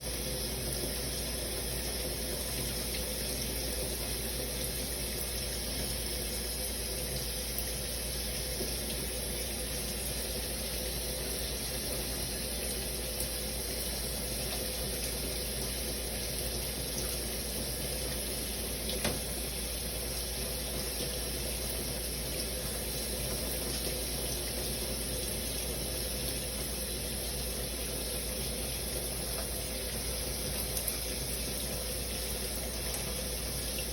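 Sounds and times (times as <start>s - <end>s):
shower water spraying: 0.0s - 33.9s.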